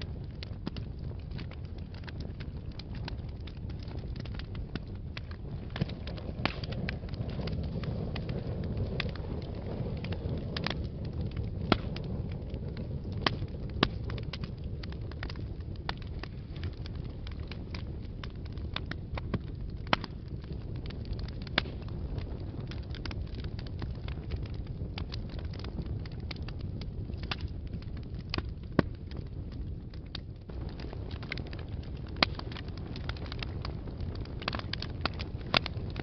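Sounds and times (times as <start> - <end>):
fire crackling and popping: 0.0 - 36.0
fire flames rumbling: 0.0 - 36.0.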